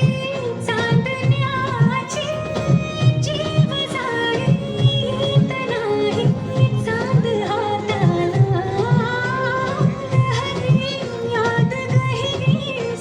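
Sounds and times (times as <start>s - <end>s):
woman singing wavering melody: 0.0s - 13.0s.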